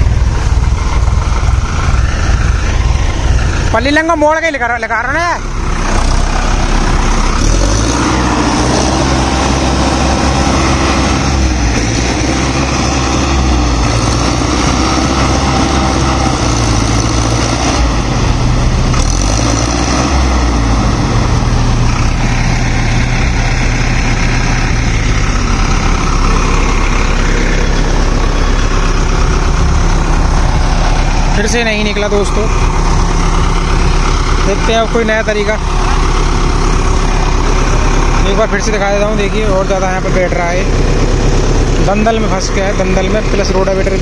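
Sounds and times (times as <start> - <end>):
tractor diesel engine straining: 0.0 - 44.0.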